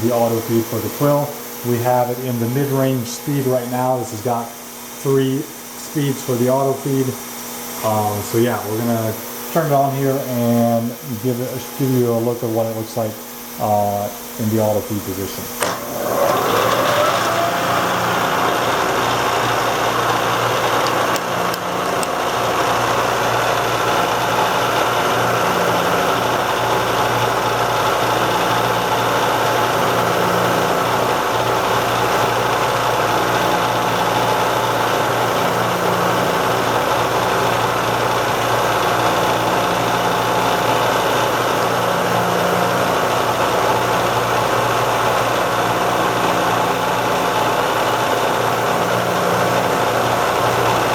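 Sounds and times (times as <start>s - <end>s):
milling machine humming and whining: 0.0s - 50.9s.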